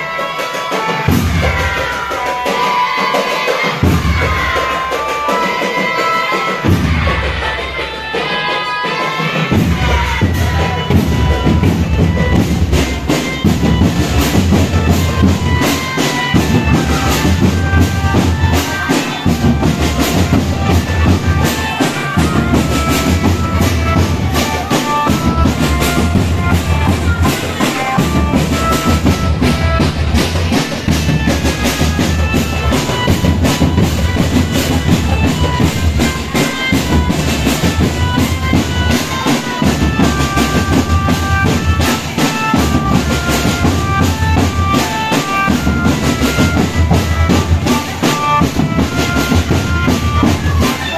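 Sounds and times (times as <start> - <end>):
marching drum band playing: 0.0 - 50.9
melody over drums: 0.0 - 50.9.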